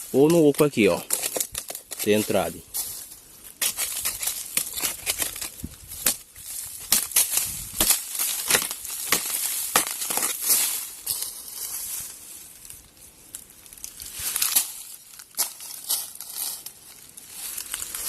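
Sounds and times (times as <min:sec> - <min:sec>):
dry leaves crunching: 0:00.0 - 0:18.0.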